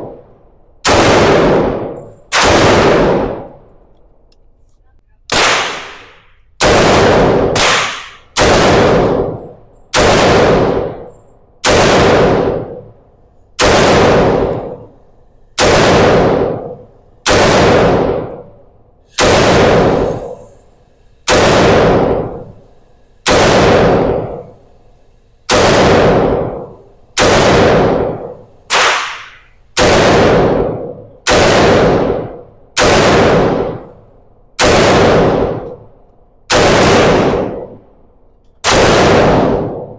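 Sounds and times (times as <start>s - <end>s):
gunshots with echo: 0.8s - 3.7s, 5.3s - 13.0s, 13.6s - 24.9s, 25.5s - 35.9s, 36.5s - 37.8s, 38.6s - 39.9s.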